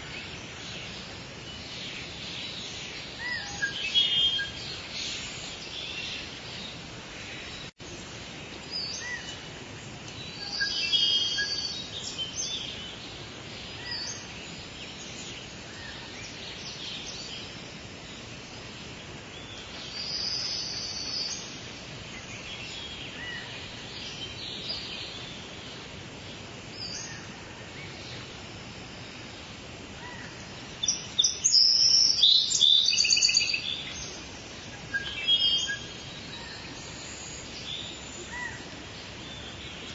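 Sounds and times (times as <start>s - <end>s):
small birds chirping: 0.0s - 39.9s
soft rain hiss: 0.0s - 39.9s.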